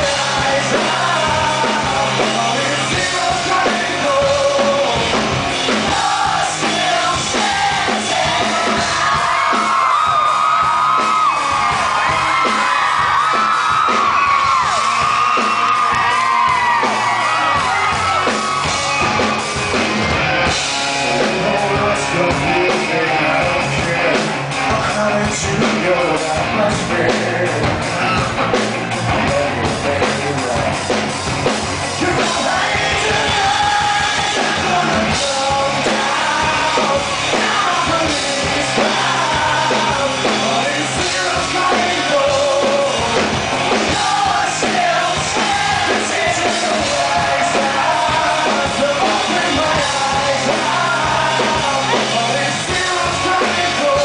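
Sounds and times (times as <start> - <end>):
man singing: 0.0 - 14.7, 21.0 - 28.3, 29.2 - 30.8, 32.0 - 54.0
live rock band playing: 0.0 - 54.0.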